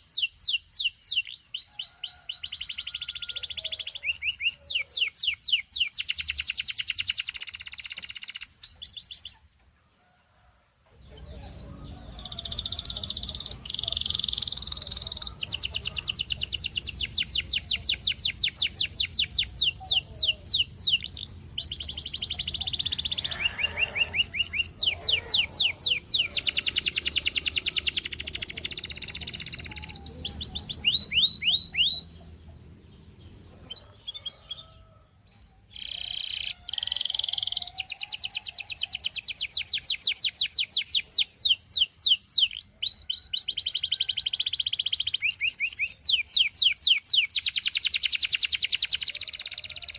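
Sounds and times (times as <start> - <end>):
canary trilling: 0.0 - 9.4, 11.2 - 49.9.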